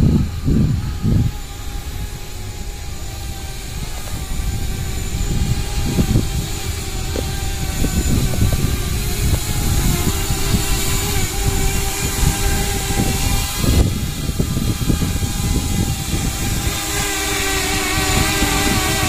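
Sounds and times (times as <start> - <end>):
drone motors whining: 0.0 - 19.0
gusty low rumble: 0.0 - 19.0.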